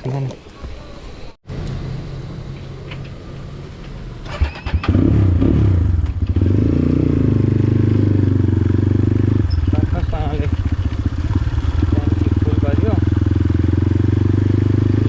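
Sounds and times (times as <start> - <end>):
motorcycle engine revving: 1.6 - 15.0.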